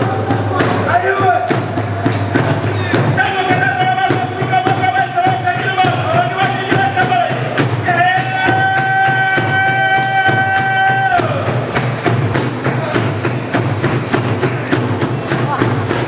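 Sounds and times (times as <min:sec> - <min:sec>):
drums beating fast rhythm: 0:00.0 - 0:16.0.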